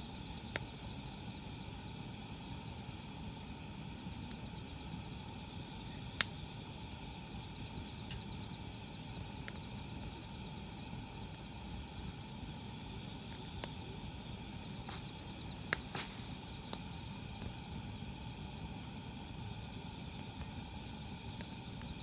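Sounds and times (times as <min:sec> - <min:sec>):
campfire crackling and popping: 0:00.0 - 0:22.0
insects chirring: 0:00.0 - 0:22.0.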